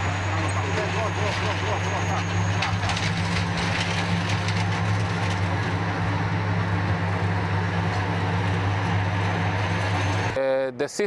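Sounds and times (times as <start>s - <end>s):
bulldozer diesel engine drone: 0.0s - 10.4s.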